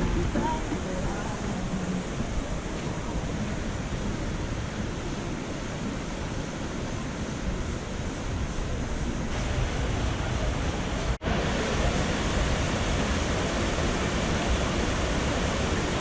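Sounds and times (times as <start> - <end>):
river water over waterfalls: 0.0 - 16.0.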